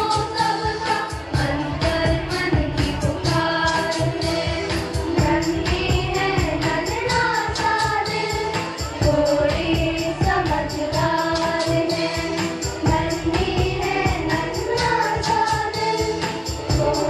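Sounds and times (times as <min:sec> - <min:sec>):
song with singing over beat: 0:00.0 - 0:17.0.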